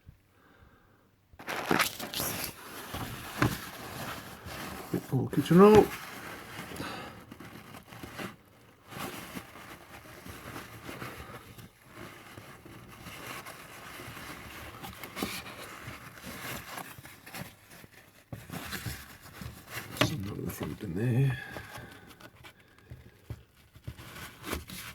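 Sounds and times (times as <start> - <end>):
kitchen roll rustling and crinkling: 1.4 - 24.9
light scrapes and handling knocks: 2.1 - 24.9.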